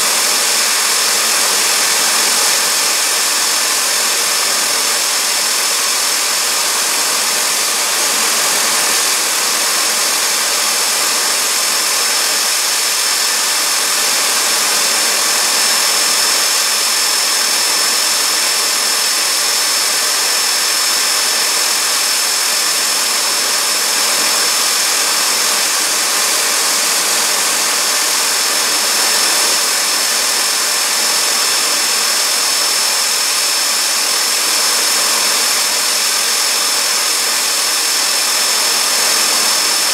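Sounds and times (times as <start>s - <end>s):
high-pitched engine whine: 0.0s - 39.9s.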